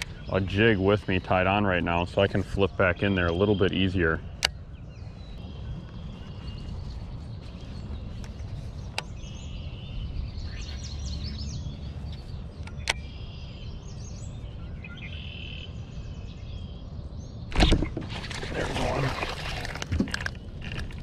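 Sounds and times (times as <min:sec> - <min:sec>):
low rumble of outdoor noise: 0:00.0 - 0:21.0
songbirds singing: 0:00.0 - 0:21.0.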